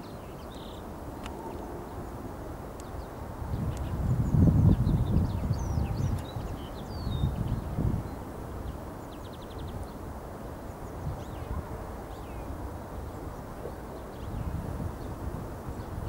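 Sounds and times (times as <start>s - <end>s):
small birds chirping: 2.8s - 16.0s.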